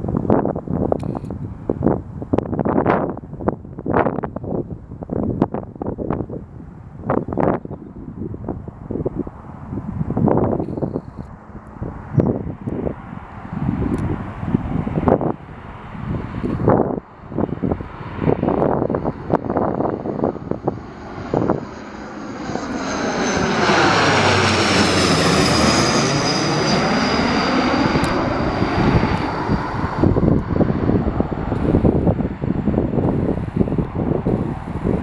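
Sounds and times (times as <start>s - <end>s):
wind buffeting microphone: 0.0s - 35.0s
turboprop plane passing overhead: 1.6s - 35.0s.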